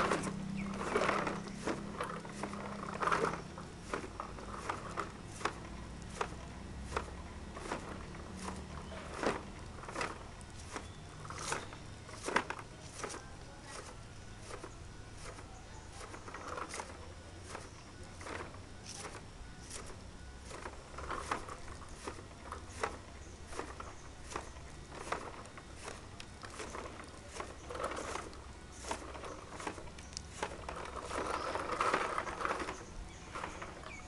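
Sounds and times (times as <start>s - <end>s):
brush sweeping dry leaves: 0.0s - 34.0s
low motor hum: 0.0s - 34.0s.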